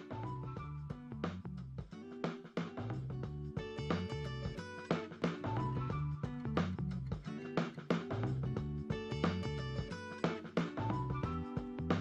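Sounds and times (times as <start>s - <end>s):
instrumental music with plucked guitar: 0.0s - 12.0s.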